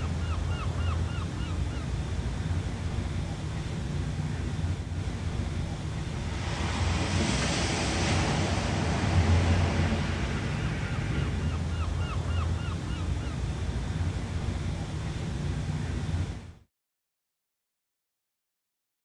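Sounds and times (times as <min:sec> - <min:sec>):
ocean waves washing ashore: 0:00.0 - 0:16.7
steady low rumble: 0:00.0 - 0:16.7.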